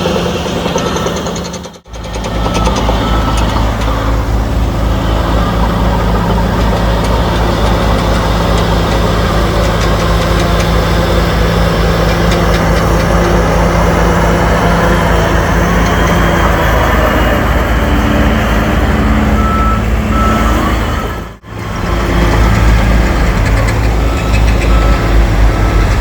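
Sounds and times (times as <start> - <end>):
diesel engine running steadily: 0.0 - 26.0.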